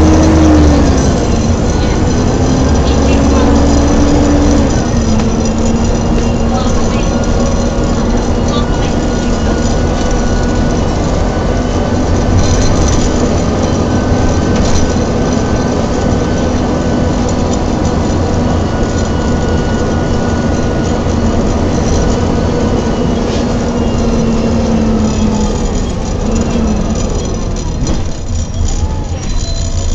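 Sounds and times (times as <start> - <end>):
bus engine and road rumble: 0.0 - 29.9
gearbox whine: 0.0 - 29.9.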